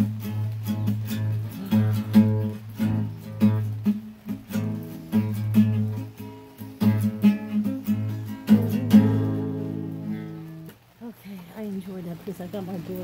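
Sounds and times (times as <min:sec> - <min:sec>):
acoustic guitar strumming: 0:00.0 - 0:10.9.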